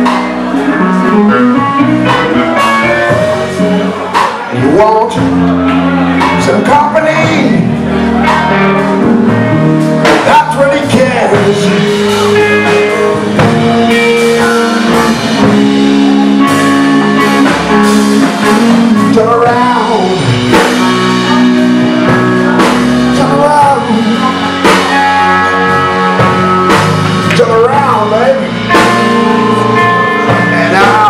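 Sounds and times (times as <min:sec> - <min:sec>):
bent electric guitar notes: 0:00.0 - 0:31.0
blues-rock band playing: 0:00.0 - 0:31.0.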